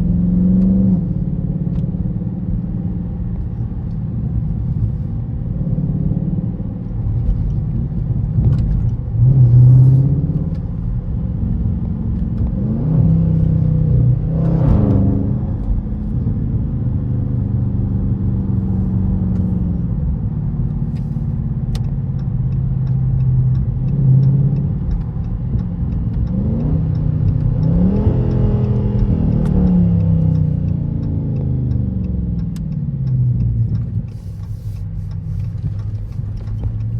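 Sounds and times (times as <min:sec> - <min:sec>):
car engine droning: 0:00.0 - 0:36.9.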